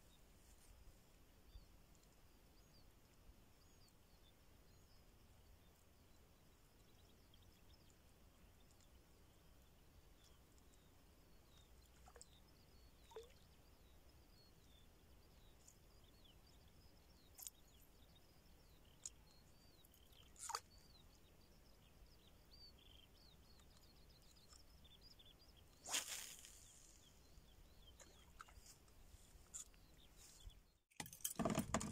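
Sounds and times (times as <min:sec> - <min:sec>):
small birds chirping: 0:01.5 - 0:30.9.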